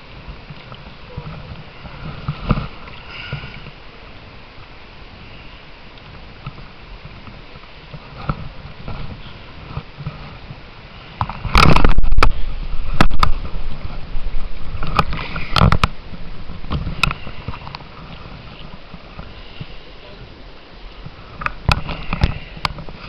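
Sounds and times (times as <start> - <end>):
flowing water: 0.0 - 23.0.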